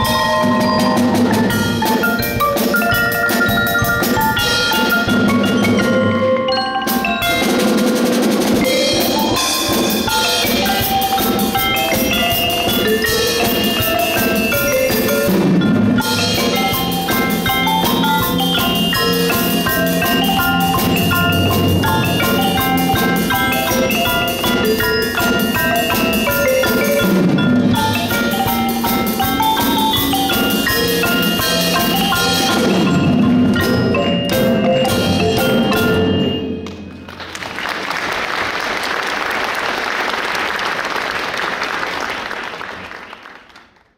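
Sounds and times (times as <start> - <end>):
marimbas playing lively tune: 0.0 - 37.2
drums: 0.0 - 43.0.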